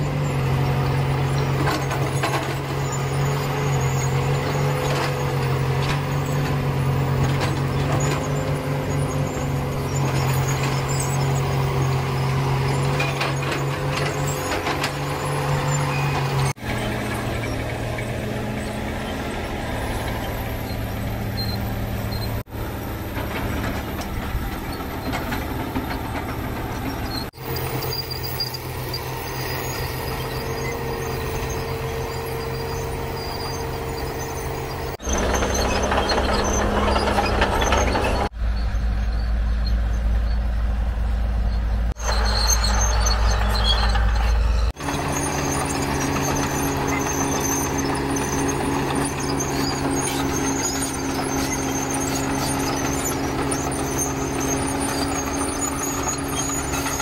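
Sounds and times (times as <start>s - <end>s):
heavy diesel machinery under load: 0.0s - 57.0s.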